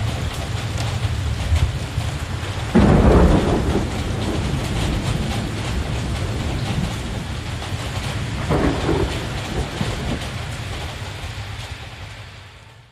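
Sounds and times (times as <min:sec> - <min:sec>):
rolling thunder: 0:00.0 - 0:11.8
heavy rain: 0:00.0 - 0:12.9.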